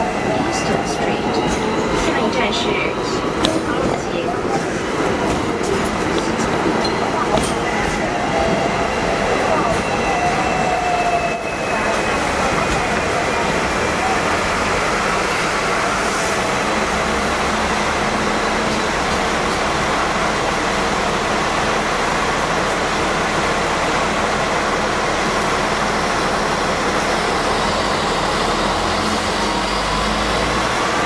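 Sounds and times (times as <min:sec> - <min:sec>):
road traffic: 0:00.0 - 0:31.0
tram ride noise: 0:00.0 - 0:31.0.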